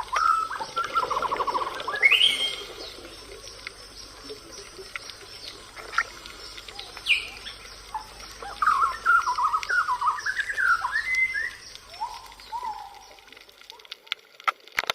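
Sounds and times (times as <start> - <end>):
bird singing: 0.0 - 5.7, 6.3 - 13.3
forest background: 0.0 - 14.5
small ticks: 0.0 - 14.9.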